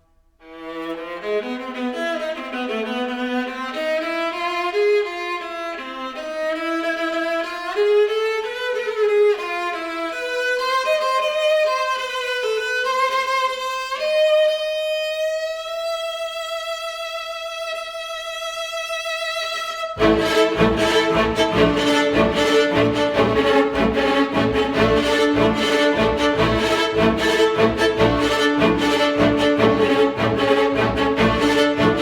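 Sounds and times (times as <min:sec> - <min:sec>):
solo viola melody: 0:00.4 - 0:32.0.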